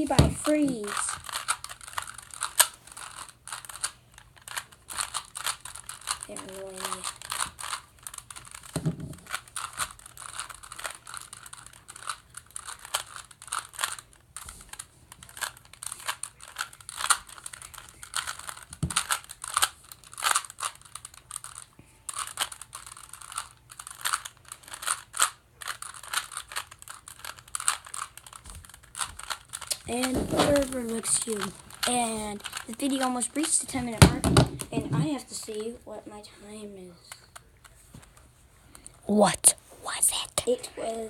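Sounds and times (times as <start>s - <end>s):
plastic puzzle cube clicking: 0.4s - 33.6s.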